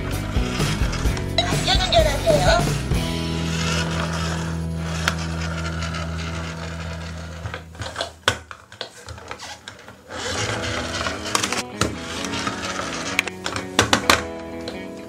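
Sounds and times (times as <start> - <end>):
toy car motor whirring: 0.0 - 8.2, 9.2 - 13.9.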